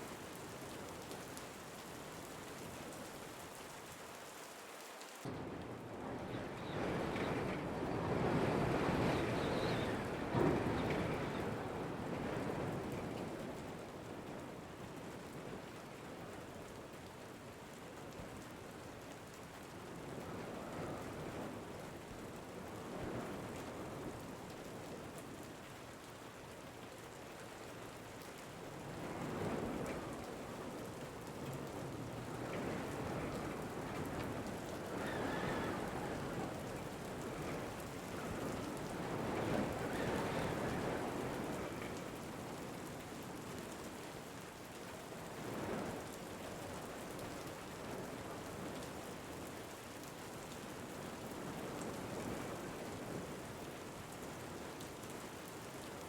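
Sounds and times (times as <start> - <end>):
rain falling: 0.0 - 56.0
wind: 0.0 - 56.0.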